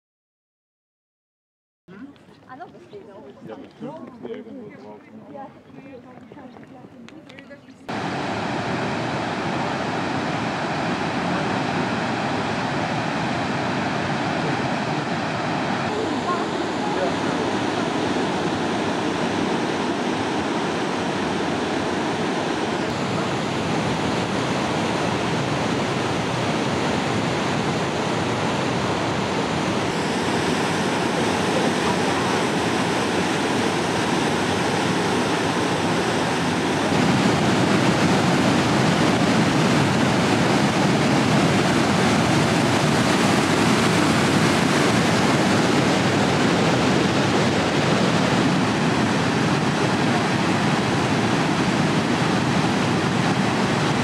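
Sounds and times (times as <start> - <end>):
waterfall roaring: 7.9 - 54.0.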